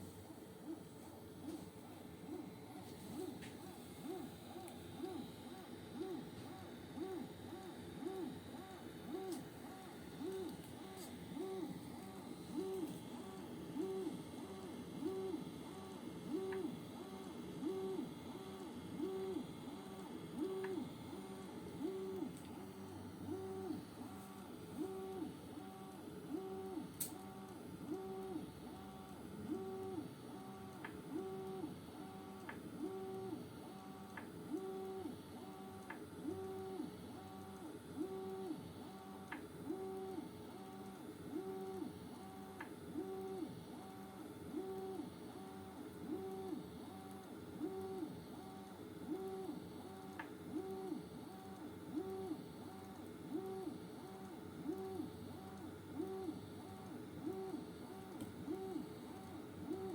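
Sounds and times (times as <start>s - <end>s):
printer stepper motors whining: 0.0s - 59.9s.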